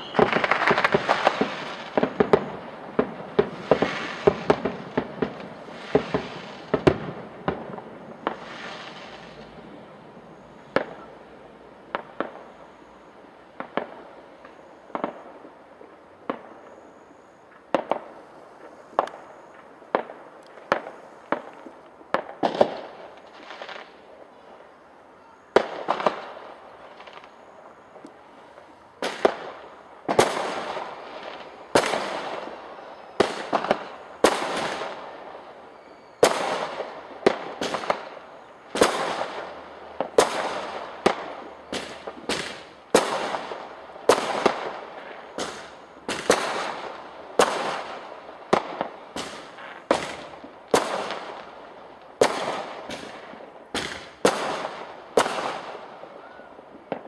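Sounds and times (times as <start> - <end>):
fireworks bangs echoing: 0.0 - 12.8, 13.5 - 16.9, 17.5 - 24.6, 25.2 - 57.0.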